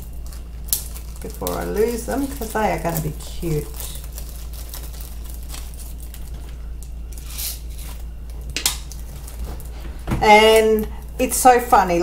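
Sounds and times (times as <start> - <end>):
plastic bag crinkling: 0.0 - 12.0
steady low hum: 0.0 - 12.0.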